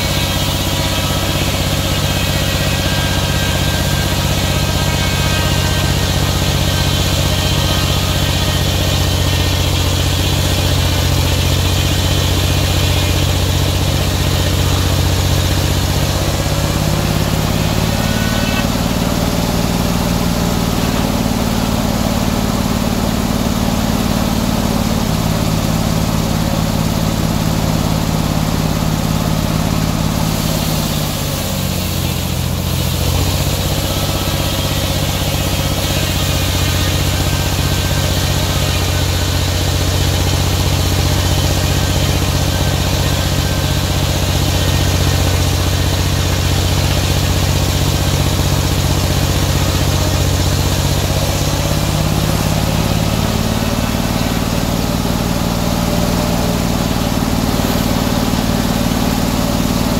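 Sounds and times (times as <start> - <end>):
circular saw cutting log: 0.0 - 59.9.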